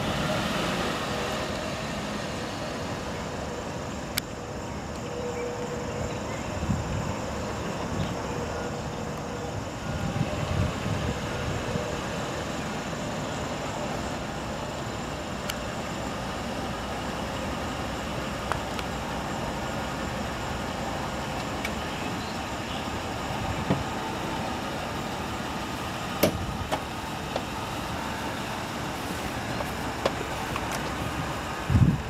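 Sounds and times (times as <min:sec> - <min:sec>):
pickup truck engine idling: 0:00.0 - 0:32.0.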